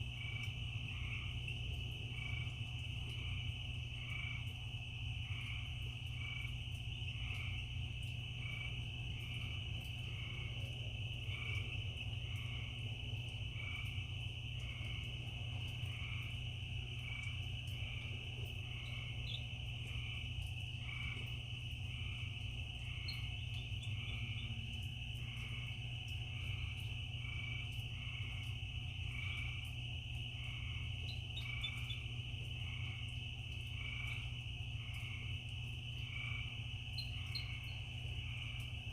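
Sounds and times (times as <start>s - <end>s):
cricket trill: 0.0s - 38.9s
frog calling: 0.2s - 38.9s.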